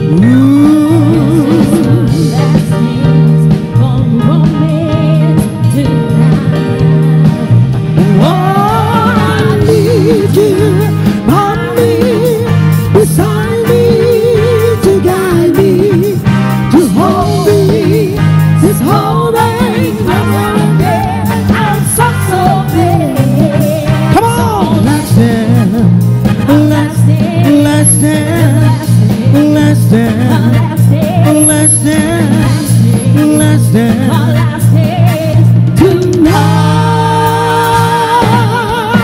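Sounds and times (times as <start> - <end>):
person singing: 0.0 - 6.6, 8.0 - 39.0
live band playing pop music: 0.0 - 39.0.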